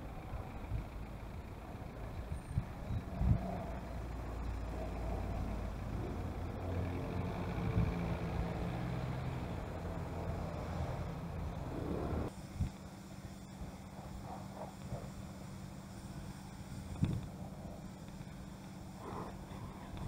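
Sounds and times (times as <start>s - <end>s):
low engine hum: 0.0s - 20.0s
vehicle engines running: 0.0s - 20.0s.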